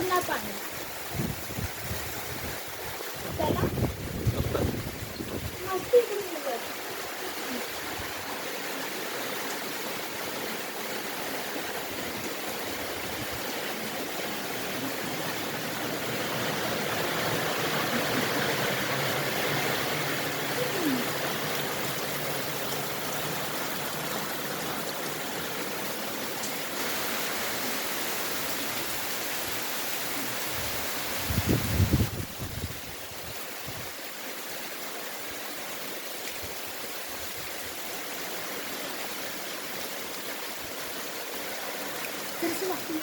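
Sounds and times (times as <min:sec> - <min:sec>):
stream water rushing: 0:00.0 - 0:43.0.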